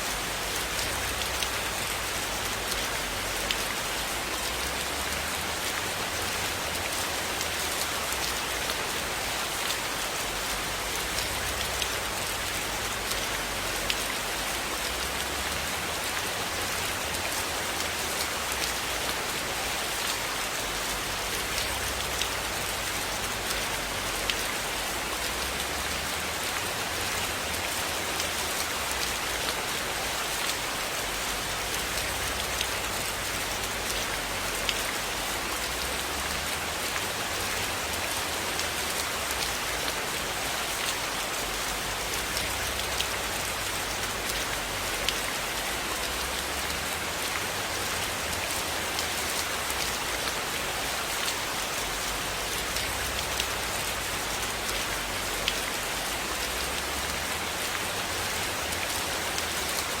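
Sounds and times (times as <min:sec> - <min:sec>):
rain on a roof: 0:00.0 - 1:00.0.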